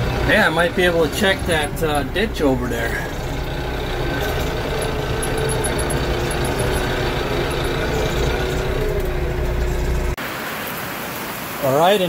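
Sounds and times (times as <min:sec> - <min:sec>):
tractor diesel engine running: 0:00.0 - 0:10.2.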